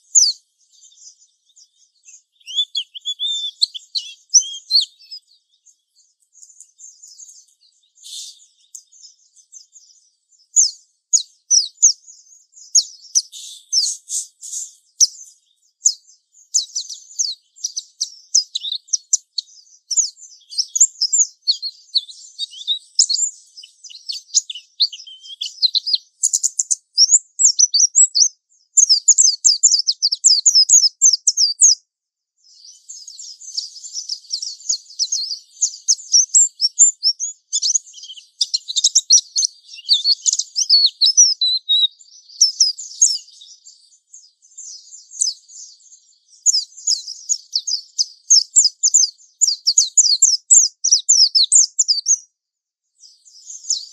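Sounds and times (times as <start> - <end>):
bird high-pitched chirps and trills: 0.0 - 53.9.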